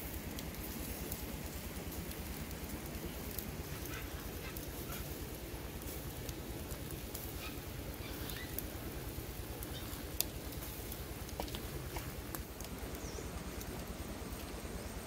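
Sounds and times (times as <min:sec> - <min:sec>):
fire crackling: 0:00.0 - 0:15.0.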